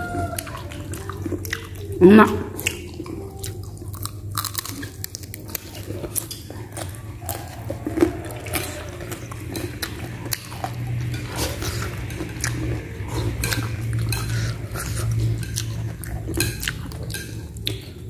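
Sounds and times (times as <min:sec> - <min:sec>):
chewing and crunching: 0:00.0 - 0:18.0.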